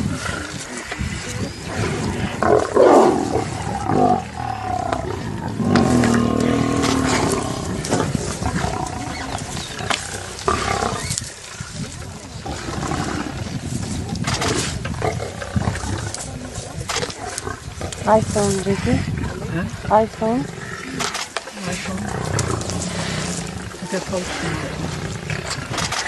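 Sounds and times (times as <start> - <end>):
lions growling: 0.0 - 26.0.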